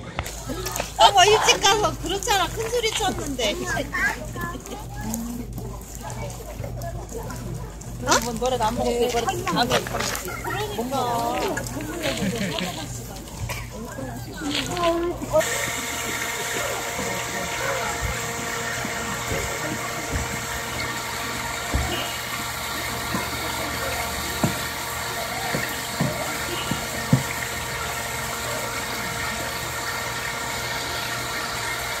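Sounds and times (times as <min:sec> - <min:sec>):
wood fire hissing: 0:00.0 - 0:06.8, 0:08.0 - 0:32.0.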